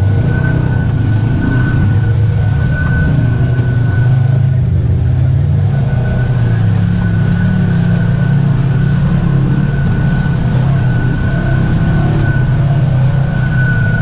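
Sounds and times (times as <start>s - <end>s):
thin steady whine: 0.0s - 14.0s
vehicle engine running: 0.0s - 14.0s.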